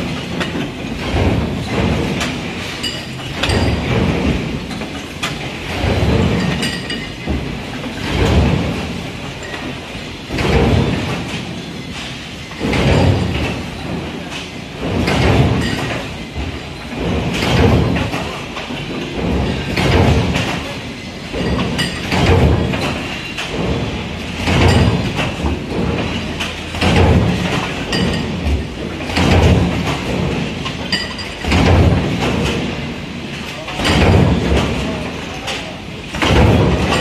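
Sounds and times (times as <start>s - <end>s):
stamping press strokes rumbling: 0.0s - 37.0s.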